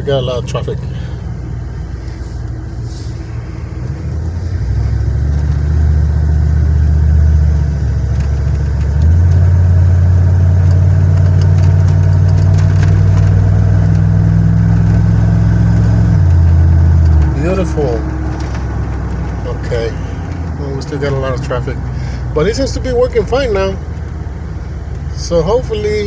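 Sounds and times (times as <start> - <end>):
car engine droning while accelerating: 0.0 - 26.0.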